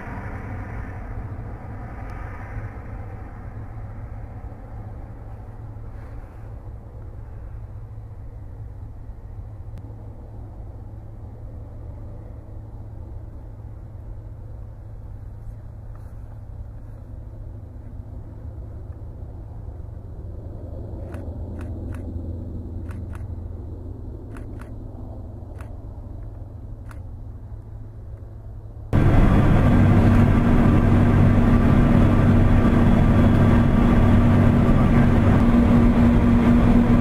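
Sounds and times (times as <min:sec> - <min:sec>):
distant turboprop aircraft drone: 0:00.0 - 0:37.0.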